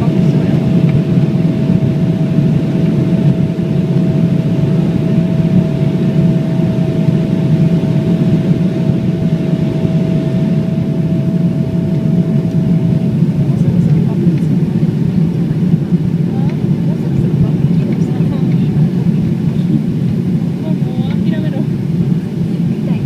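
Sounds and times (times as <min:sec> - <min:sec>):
jet engine low rumble: 0:00.0 - 0:23.0
steady tone: 0:00.0 - 0:23.0.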